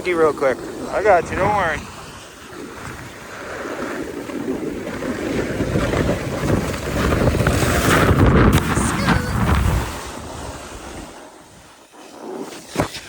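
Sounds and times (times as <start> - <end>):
snowboard scraping snow: 0.0 - 13.0
wind on microphone: 0.0 - 13.0.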